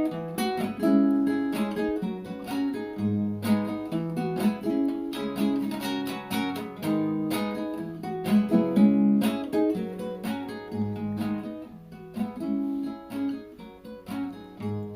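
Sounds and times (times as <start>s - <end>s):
acoustic guitar playing: 0.0s - 14.9s.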